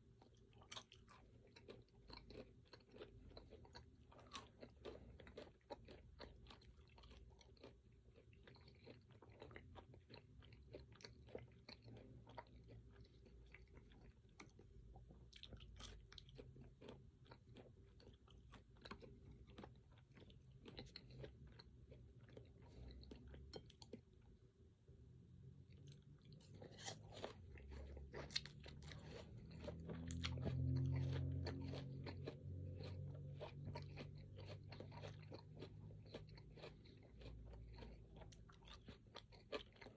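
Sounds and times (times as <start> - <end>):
person chewing crunchy food: 0.0 - 24.4, 25.6 - 39.9.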